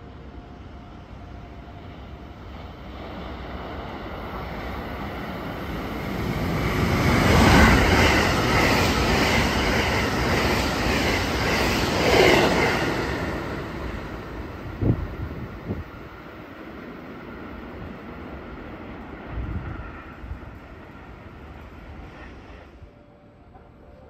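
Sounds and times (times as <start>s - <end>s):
train passing rumble: 0.0s - 24.0s.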